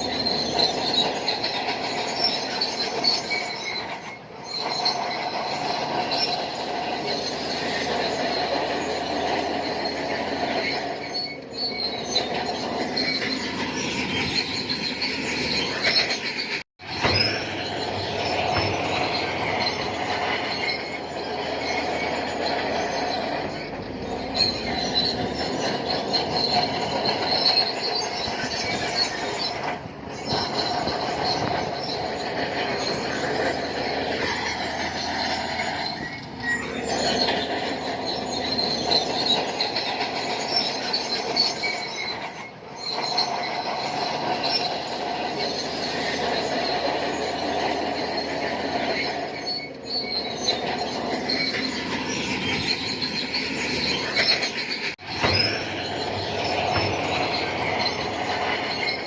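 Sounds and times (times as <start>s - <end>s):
diesel engine running: 0.0s - 16.0s, 16.8s - 59.0s
steel tracks squealing: 0.0s - 59.0s.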